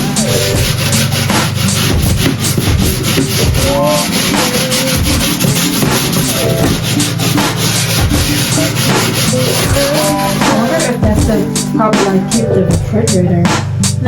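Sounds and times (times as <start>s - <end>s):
hand scrubbing a surface: 0.0s - 12.2s.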